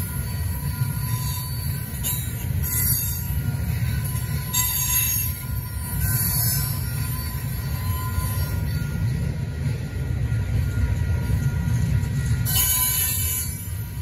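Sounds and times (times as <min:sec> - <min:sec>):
high-pitched wheel squeal: 0:00.0 - 0:14.0
train wheels rumbling on rail: 0:00.0 - 0:14.0.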